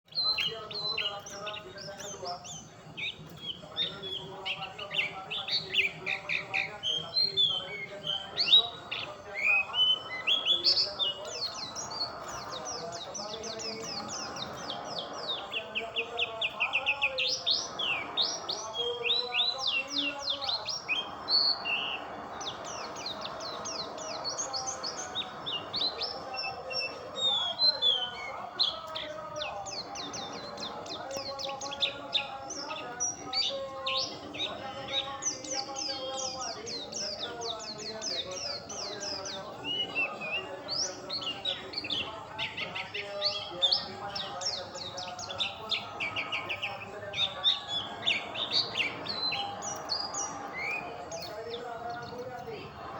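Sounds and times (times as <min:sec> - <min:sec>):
bird twittering song: 0:00.0 - 0:52.9.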